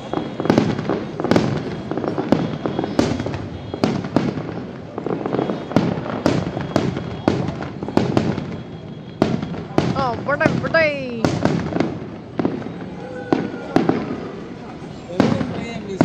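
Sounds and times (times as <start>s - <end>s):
fireworks bursting with echo: 0.0s - 16.0s.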